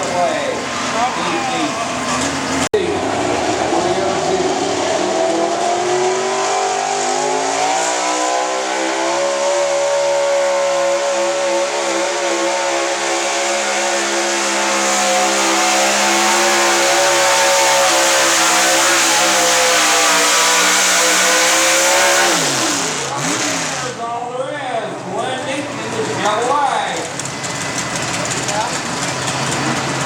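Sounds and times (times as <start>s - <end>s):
truck engine revving under load: 0.0s - 24.0s, 25.6s - 30.0s.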